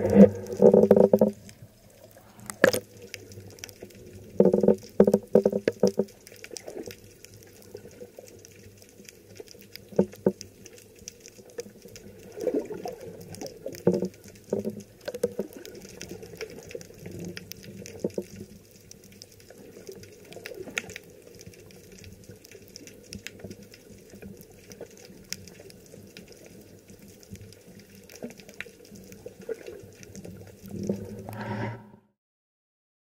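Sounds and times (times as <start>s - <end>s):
sharp clicks and crackles: 0.0s - 31.4s
water sloshing underwater: 0.0s - 32.1s.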